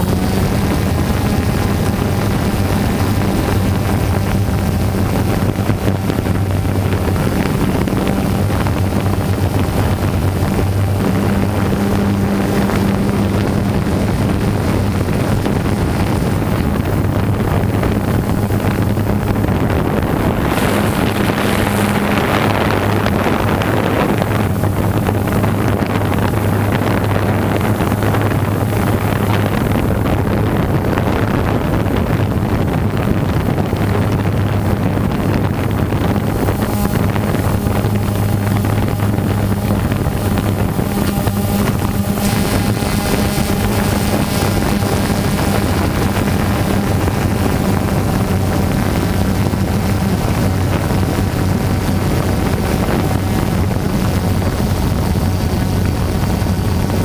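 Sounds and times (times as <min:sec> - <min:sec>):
drone propellers humming: 0:00.0 - 0:57.0
wind buffeting microphone: 0:00.0 - 0:57.0.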